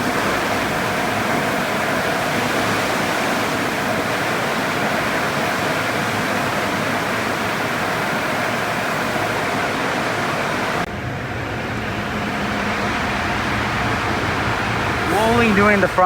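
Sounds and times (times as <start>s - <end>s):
car wash machinery rushing: 0.0s - 16.0s
low mechanical hum: 0.0s - 16.0s.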